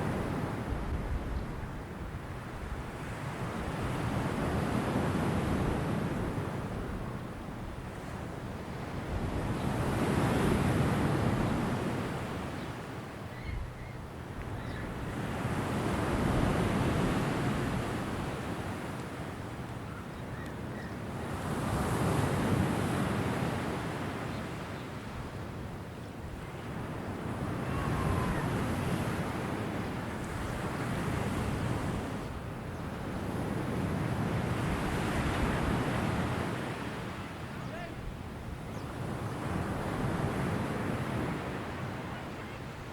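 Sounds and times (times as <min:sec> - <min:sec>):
ocean waves breaking on shore: 0:00.0 - 0:42.9.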